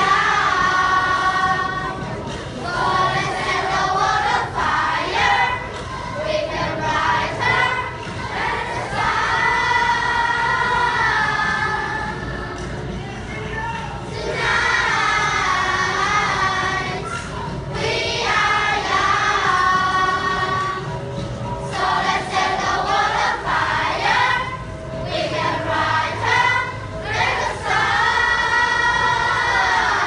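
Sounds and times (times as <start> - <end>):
children's choir singing: 0.0 - 13.0, 14.0 - 30.0.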